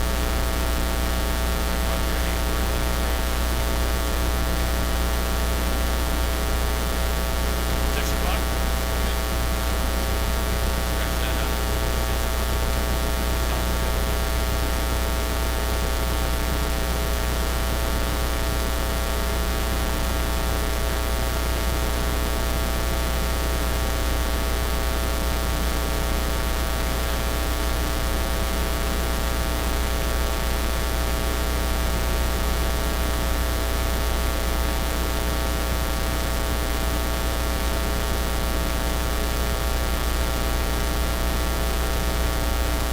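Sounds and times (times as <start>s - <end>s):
electrical mains hum and buzz: 0.0s - 42.9s.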